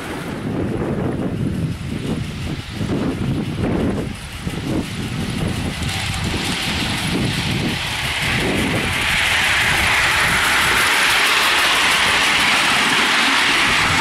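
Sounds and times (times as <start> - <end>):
model steam locomotive hissing: 0.0 - 14.0
wind rumble on microphone: 0.0 - 14.0.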